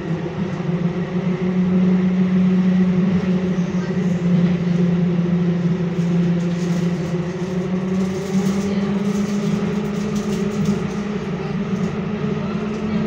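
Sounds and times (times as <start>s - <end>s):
metro train running in tunnel: 0.0s - 13.0s.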